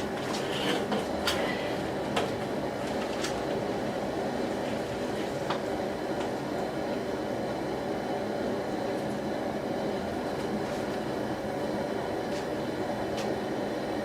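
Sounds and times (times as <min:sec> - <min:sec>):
gas burner rushing: 0:00.0 - 0:14.0.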